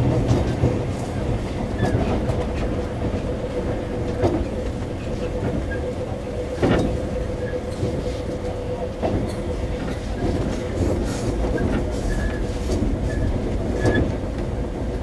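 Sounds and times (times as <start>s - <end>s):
train rumble: 0.0s - 15.0s
train wheel clacks: 0.0s - 15.0s.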